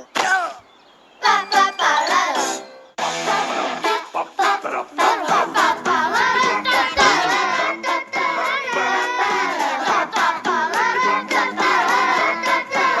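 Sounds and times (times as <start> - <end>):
group singing upbeat song: 1.2 - 13.0.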